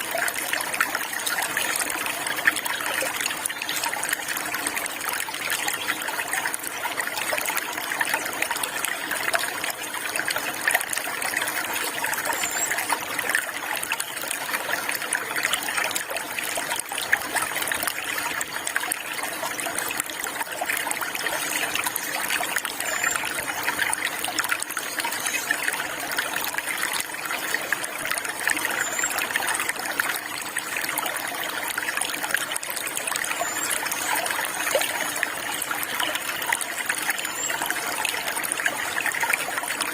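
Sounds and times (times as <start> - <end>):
water trickling and flowing: 0.0 - 39.9.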